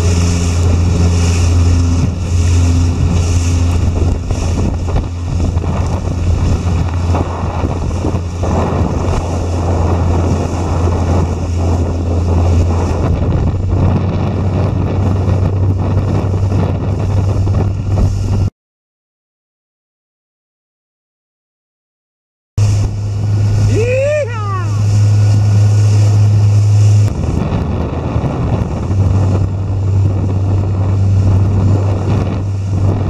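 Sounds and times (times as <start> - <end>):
boat motor droning: 0.0 - 18.5, 22.6 - 33.0
water rushing past hull: 0.0 - 18.5, 22.6 - 33.0
wind buffeting microphone: 0.0 - 18.5, 22.6 - 33.0.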